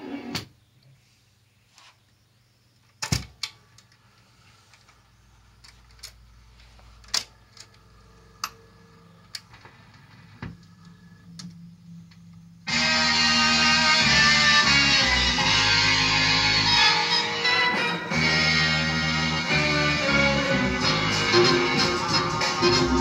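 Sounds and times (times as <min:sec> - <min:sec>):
record music: 0:00.0 - 0:00.6, 0:04.2 - 0:23.0.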